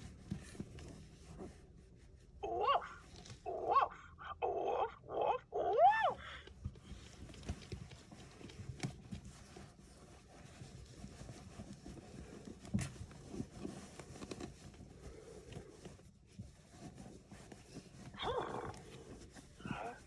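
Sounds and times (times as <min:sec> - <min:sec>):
rustling: 0:00.0 - 0:03.6, 0:06.4 - 0:20.0.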